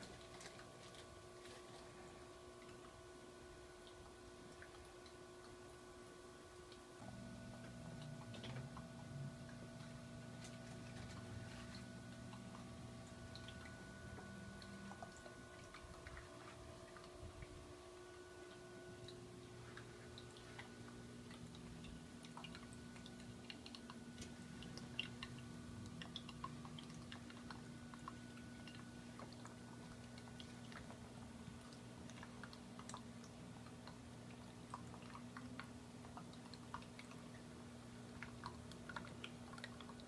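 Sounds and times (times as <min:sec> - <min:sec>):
aquarium pump hum: 0:00.0 - 0:40.0
faint irregular clicks: 0:06.6 - 0:37.5, 0:38.1 - 0:40.0.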